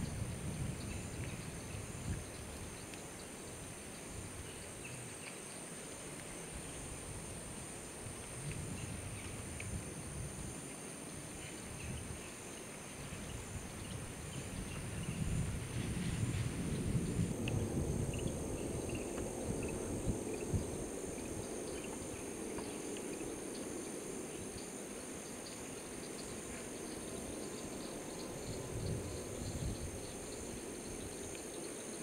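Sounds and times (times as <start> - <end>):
insect chorus drone: 0.0 - 32.0.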